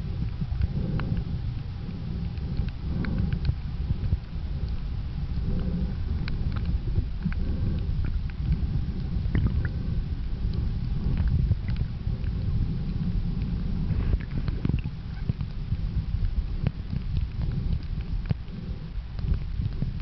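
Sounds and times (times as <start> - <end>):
faint underwater clicks: 0.0 - 20.0
underwater sea water rumble: 0.0 - 20.0.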